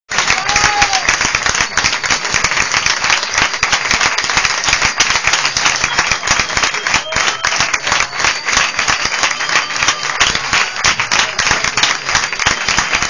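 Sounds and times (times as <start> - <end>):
audience applauding: 0.1 - 13.0.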